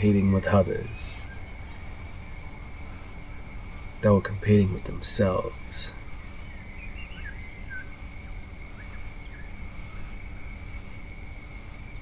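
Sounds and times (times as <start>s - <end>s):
faint birds chirping: 0.0s - 12.0s
low background rumble: 0.0s - 12.0s.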